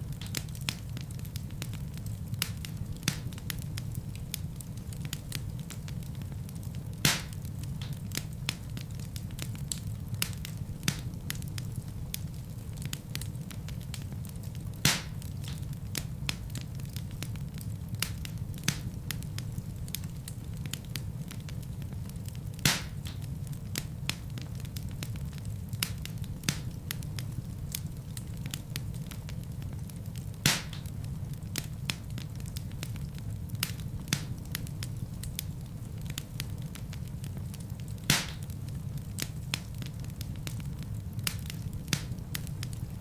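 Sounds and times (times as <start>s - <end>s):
fire low rumble: 0.0s - 43.0s
wood fire crackling: 0.0s - 43.0s
loud pops from fire: 0.1s - 43.0s.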